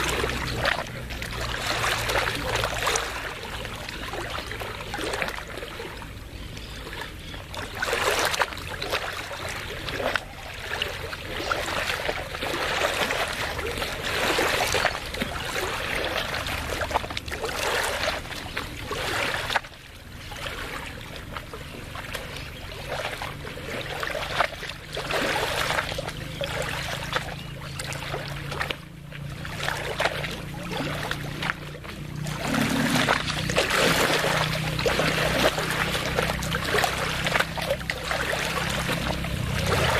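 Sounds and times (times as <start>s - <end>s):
low steady hum: 0.0s - 39.9s
small waves lapping: 0.0s - 39.9s.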